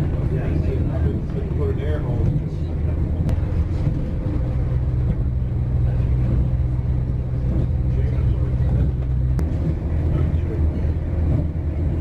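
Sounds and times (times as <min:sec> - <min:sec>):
steady low hum: 0:00.0 - 0:12.0
train rumble inside carriage: 0:00.0 - 0:12.0.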